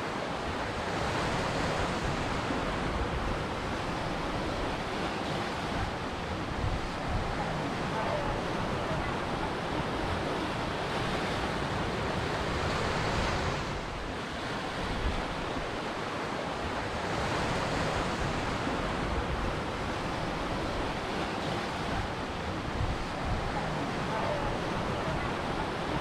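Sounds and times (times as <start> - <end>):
ocean surf washing in: 0.0 - 26.0.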